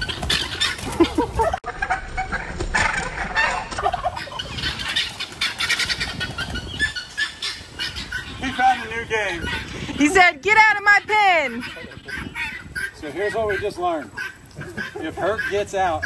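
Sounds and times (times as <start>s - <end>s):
guinea fowl calling: 0.0s - 16.0s
turkeys calling: 0.0s - 16.0s.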